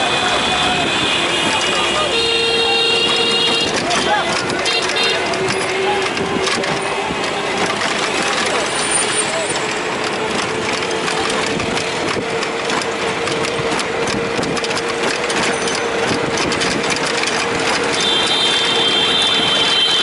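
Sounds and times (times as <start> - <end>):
rickshaw engine droning: 0.0 - 20.0
road and traffic noise: 0.0 - 20.0.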